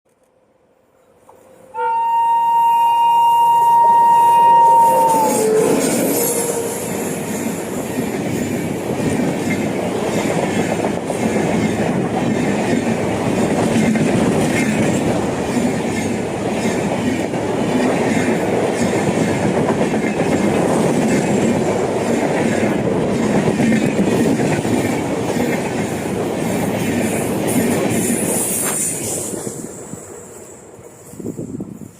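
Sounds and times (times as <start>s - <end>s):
train wheels rumbling on rail: 4.0s - 31.9s.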